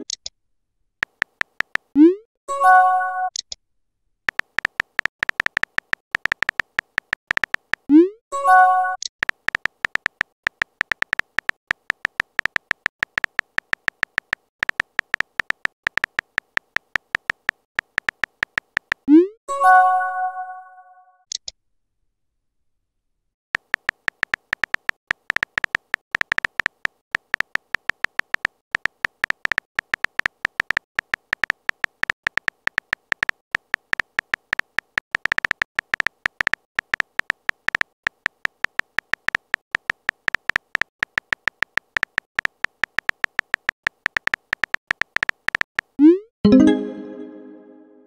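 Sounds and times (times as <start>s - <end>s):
keyboard tap clicks with beeps: 4.3s - 19.8s, 23.6s - 47.5s.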